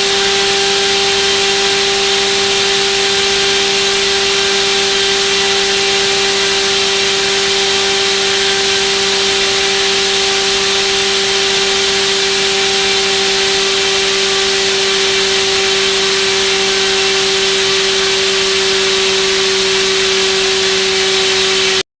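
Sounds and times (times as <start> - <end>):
electric motor spinning propeller: 0.0 - 21.8.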